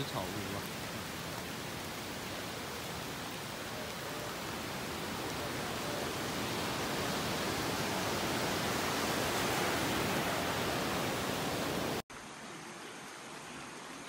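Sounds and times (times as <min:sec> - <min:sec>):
surf breaking on a beach: 0:00.0 - 0:12.0
faint hiss: 0:00.0 - 0:14.0.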